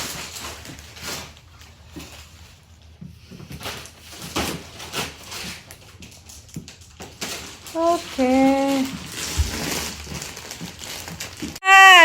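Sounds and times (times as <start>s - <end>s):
knocks and rustles of handling: 0.0s - 11.6s.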